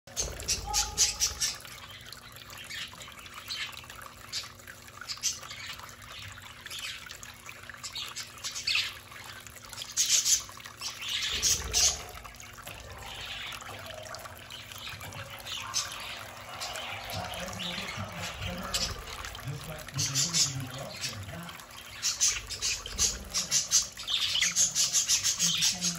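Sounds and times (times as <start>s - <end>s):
fountain trickling: 0.1s - 25.9s.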